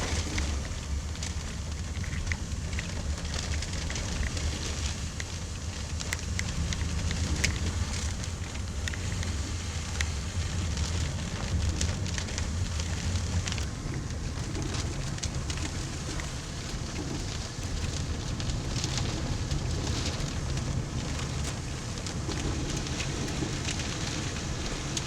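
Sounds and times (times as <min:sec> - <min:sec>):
raindrops ticking: 0:00.0 - 0:25.0.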